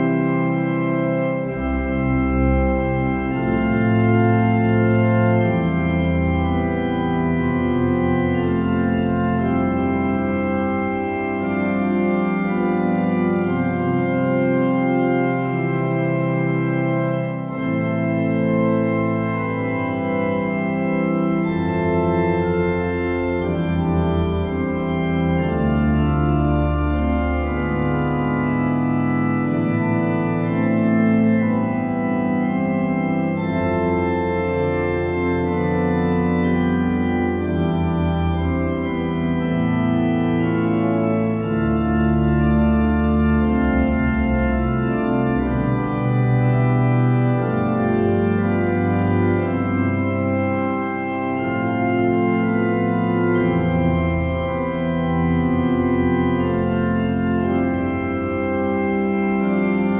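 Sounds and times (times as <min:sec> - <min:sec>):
organ music: 0:00.0 - 0:59.9.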